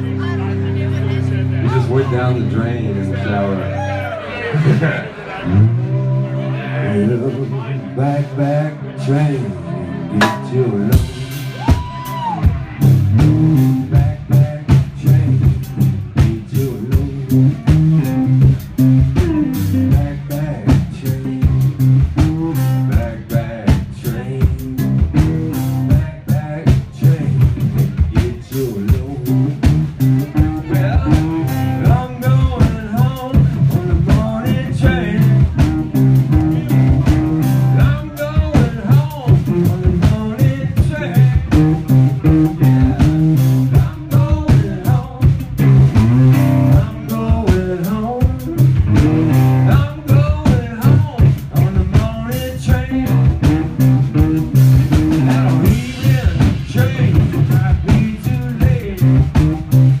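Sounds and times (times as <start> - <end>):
electric guitar: 0.0 - 60.0
heavy bass line: 0.0 - 60.0
drum hits: 10.2 - 60.0.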